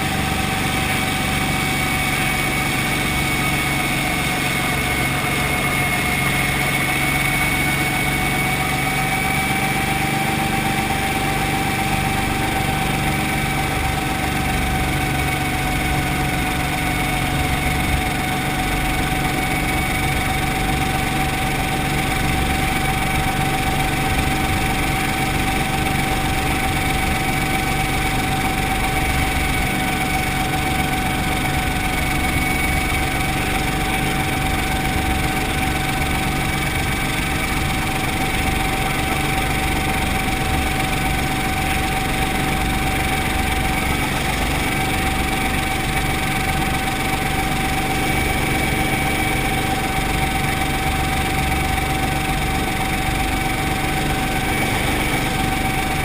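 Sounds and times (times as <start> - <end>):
helicopter engine running: 0.0 - 56.0
high whine: 0.0 - 56.0.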